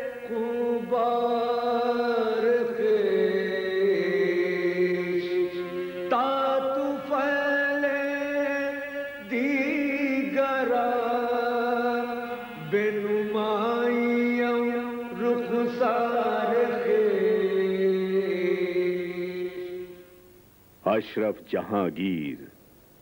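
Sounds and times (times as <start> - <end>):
person chanting a hymn: 0.0 - 22.6.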